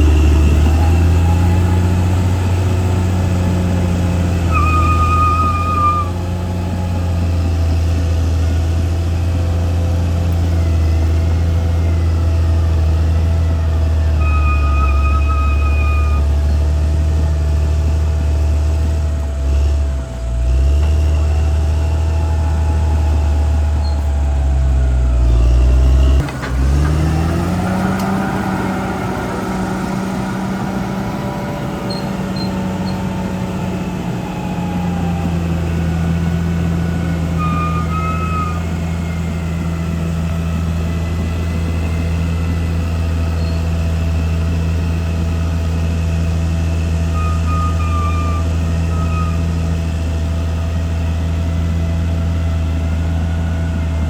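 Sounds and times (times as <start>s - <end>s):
bulldozer diesel engine revving: 0.0s - 54.0s.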